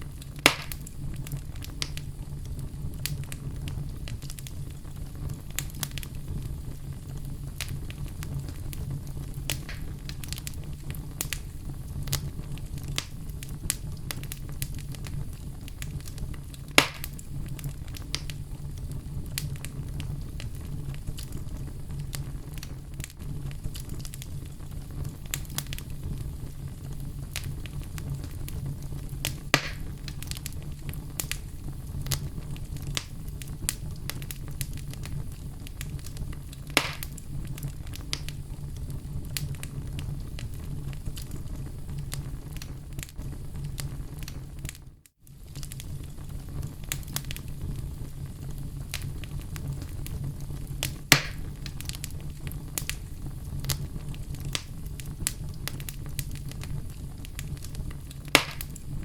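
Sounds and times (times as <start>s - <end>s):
fire pops: 0.0s - 59.0s
wood fire crackling: 0.0s - 59.0s.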